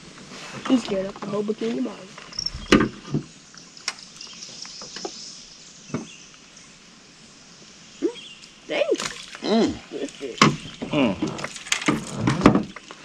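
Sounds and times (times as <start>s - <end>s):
insects buzzing: 0.7s - 12.8s.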